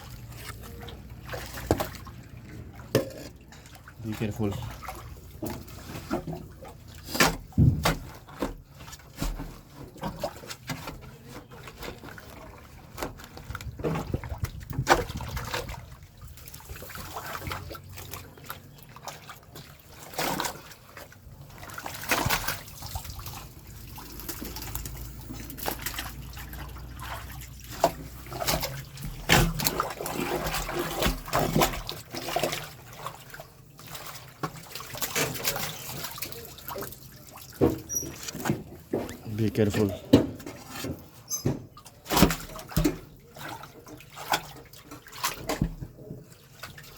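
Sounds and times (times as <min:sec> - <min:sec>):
sharp knocks and splashes: 0:00.0 - 0:46.9
water trickling in a drain: 0:00.0 - 0:46.9.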